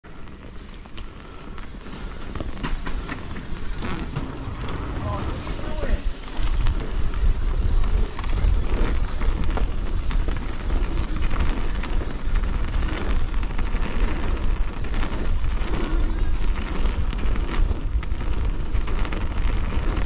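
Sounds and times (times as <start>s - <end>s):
low rumble: 0.0s - 20.0s
bike knocks and rattles: 0.1s - 20.0s
wind buffeting: 0.8s - 20.0s.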